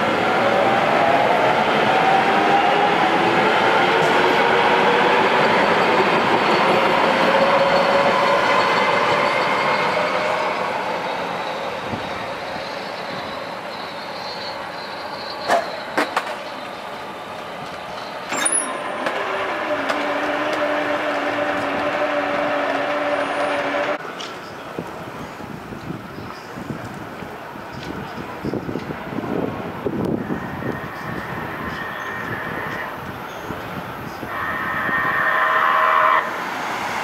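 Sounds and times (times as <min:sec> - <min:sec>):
train motor whine and wheels: 0:00.1 - 0:24.4, 0:28.6 - 0:37.0.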